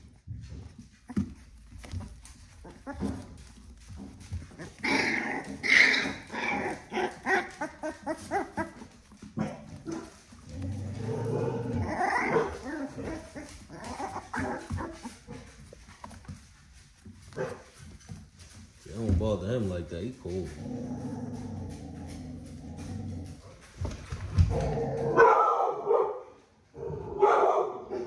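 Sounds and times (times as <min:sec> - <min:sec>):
puppies growling and yapping: 0:00.0 - 0:18.6, 0:20.5 - 0:25.2.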